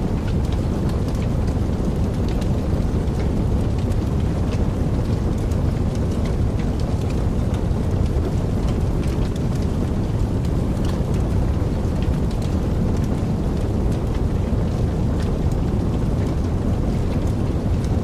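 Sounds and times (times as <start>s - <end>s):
wood fire burning: 0.0s - 18.0s.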